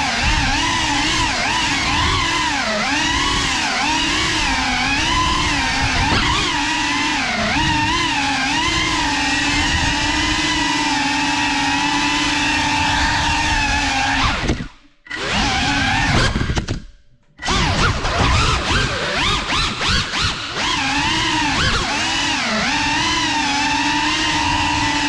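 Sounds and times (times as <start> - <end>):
drone propellers whining: 0.0 - 16.8, 17.4 - 25.0.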